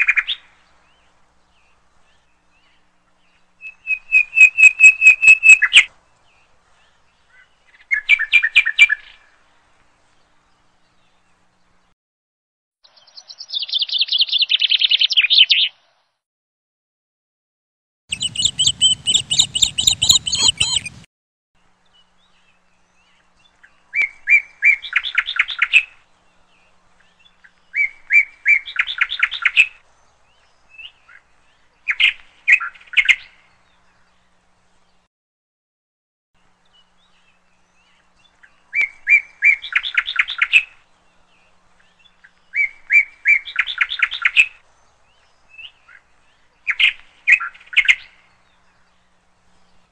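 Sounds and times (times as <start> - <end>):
songbird singing: 0.0 - 11.9, 12.8 - 16.2, 18.1 - 35.1, 36.4 - 49.9.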